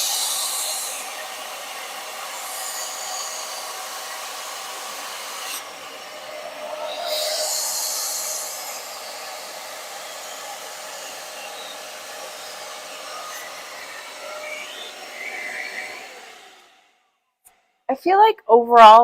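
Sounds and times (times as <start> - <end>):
spot cleaner suction motor: 0.0 - 17.0.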